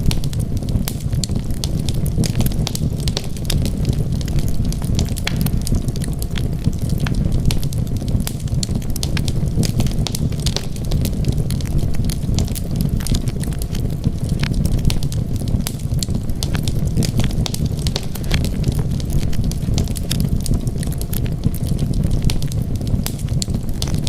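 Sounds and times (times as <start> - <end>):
low rumble of flames: 0.0 - 24.0
wood crackling and popping: 0.0 - 24.0.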